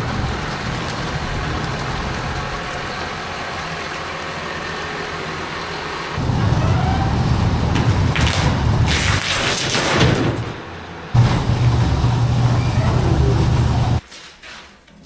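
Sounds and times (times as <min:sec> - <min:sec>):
heavy vehicle engine rumbling: 0:00.0 - 0:14.0.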